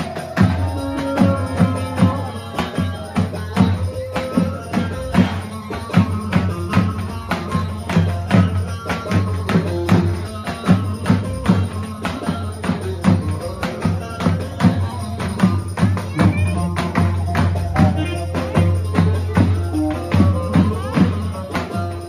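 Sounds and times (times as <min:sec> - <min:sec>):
bass drum beating quick rhythm: 0:00.0 - 0:22.0.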